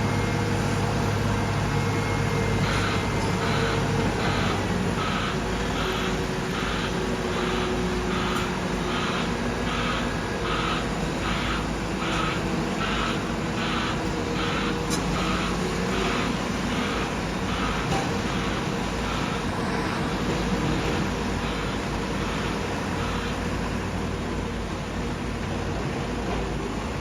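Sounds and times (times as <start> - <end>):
pulsing alarm: 0.0 - 24.2
low engine drone: 0.0 - 26.7.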